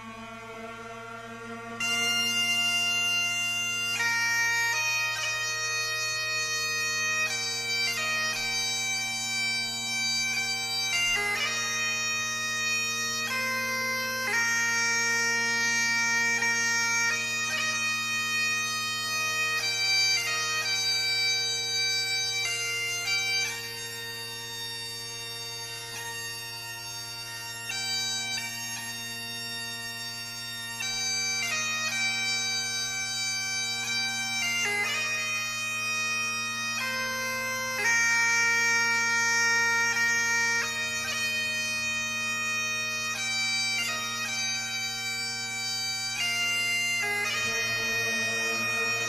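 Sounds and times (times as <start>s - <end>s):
bagpipe music: 0.0s - 49.0s.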